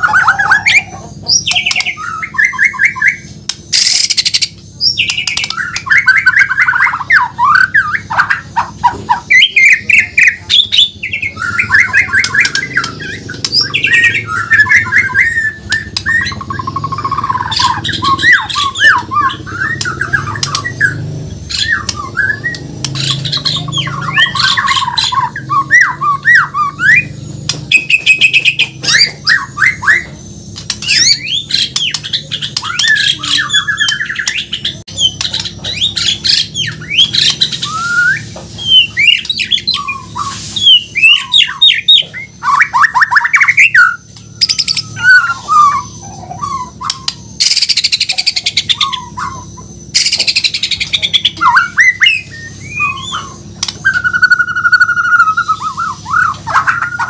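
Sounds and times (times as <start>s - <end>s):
songbird singing trills and whistles: 0.0s - 57.0s.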